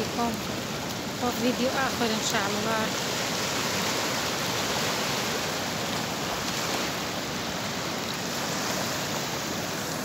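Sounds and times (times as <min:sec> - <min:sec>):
small waves breaking on shore: 0:00.0 - 0:10.0.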